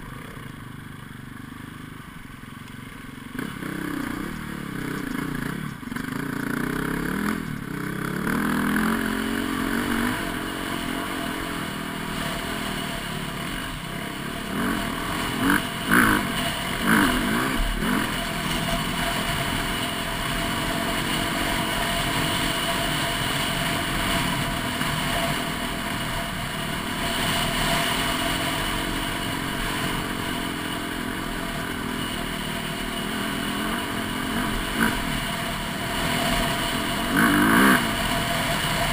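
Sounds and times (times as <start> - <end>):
dirt bike engine revving: 2.9 - 38.9.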